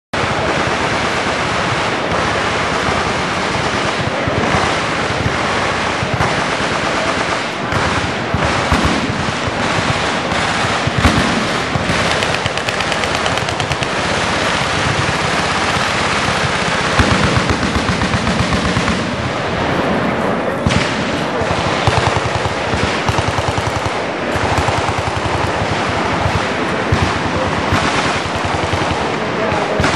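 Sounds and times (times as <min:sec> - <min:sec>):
machine-gun fire: 0:00.2 - 0:29.9.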